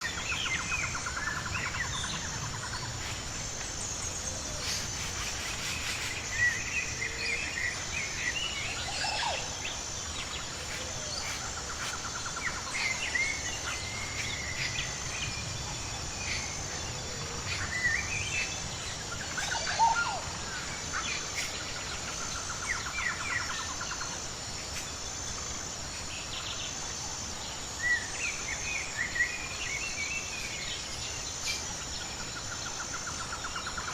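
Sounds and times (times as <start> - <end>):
pulsing insect chorus: 0.0 - 33.9.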